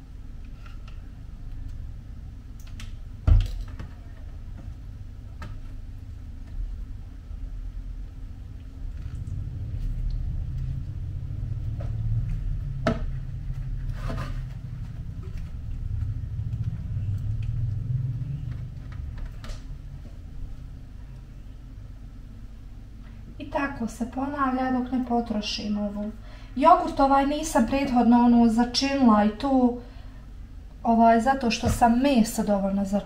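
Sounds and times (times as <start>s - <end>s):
low steady rumble: 0.0s - 33.0s.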